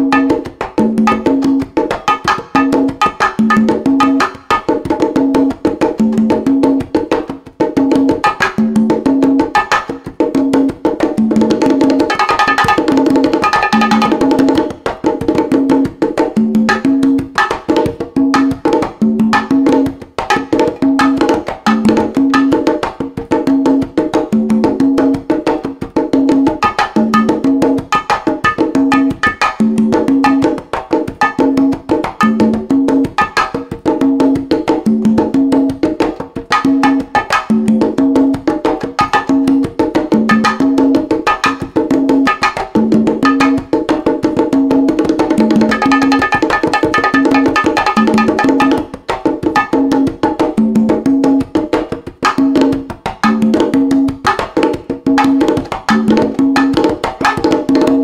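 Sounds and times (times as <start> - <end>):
bongos sharp strokes: 0.0 - 58.0
congas playing open tones: 0.0 - 58.0.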